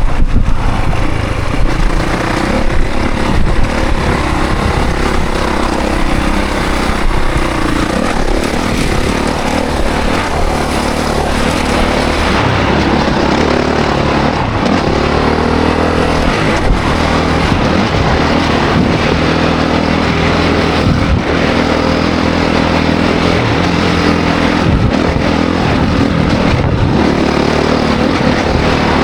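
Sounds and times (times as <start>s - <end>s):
dense rushing noise: 0.0s - 29.0s
dirt bike engine revving: 0.0s - 29.0s.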